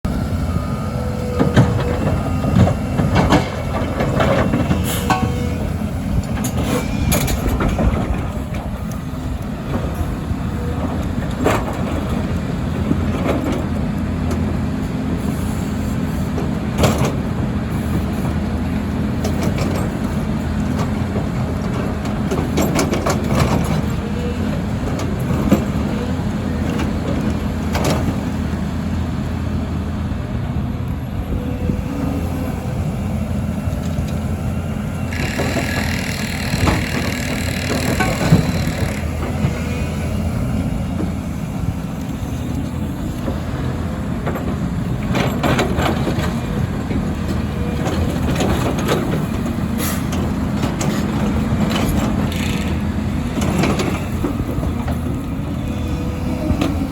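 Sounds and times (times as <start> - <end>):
excavator diesel engine: 0.0 - 56.9.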